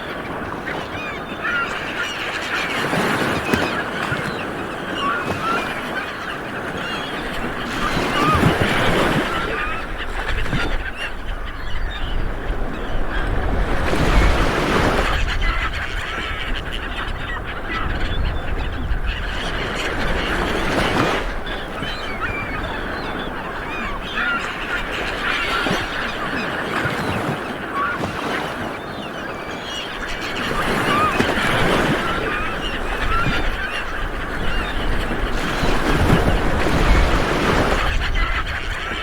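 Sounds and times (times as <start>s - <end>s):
waves washing on beach: 0.0s - 11.4s, 12.4s - 17.7s, 18.4s - 39.0s
birds chirping: 0.0s - 39.0s.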